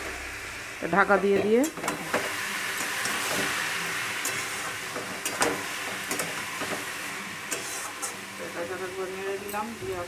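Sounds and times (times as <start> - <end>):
curry sizzling in metal pan: 0.0 - 10.0.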